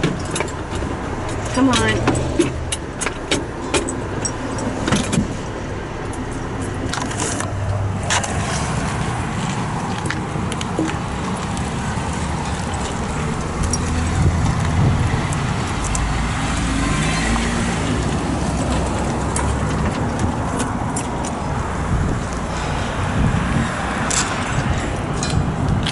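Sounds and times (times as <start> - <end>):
vehicle engine rumbling: 0.0 - 25.9.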